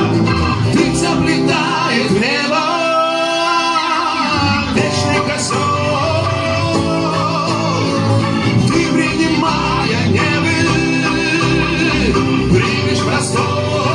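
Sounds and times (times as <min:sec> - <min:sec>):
live band with guitar and bass: 0:00.0 - 0:13.9.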